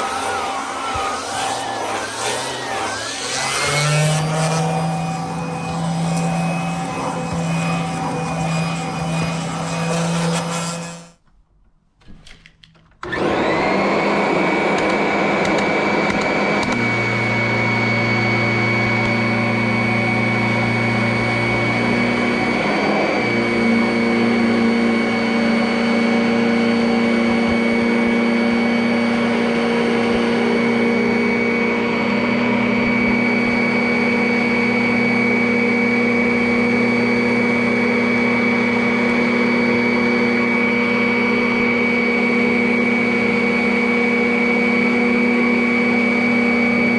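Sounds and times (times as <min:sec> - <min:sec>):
vacuum cleaner motor whine: 0:00.0 - 0:11.2, 0:13.0 - 0:46.9.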